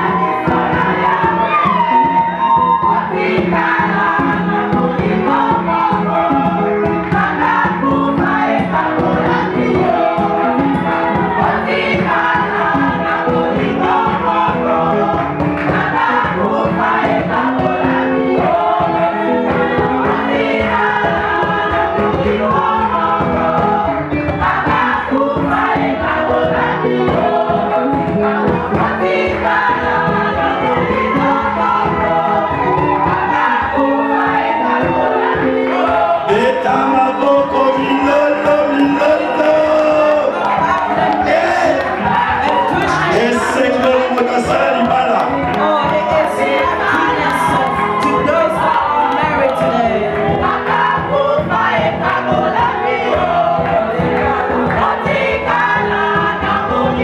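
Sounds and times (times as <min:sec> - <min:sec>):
choir singing gospel music: 0:00.0 - 0:57.0
steady beat: 0:00.0 - 0:57.0.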